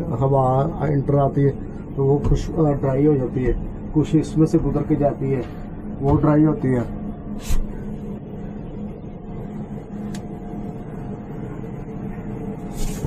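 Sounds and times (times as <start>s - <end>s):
dehumidifier motors humming: 0.0s - 13.0s.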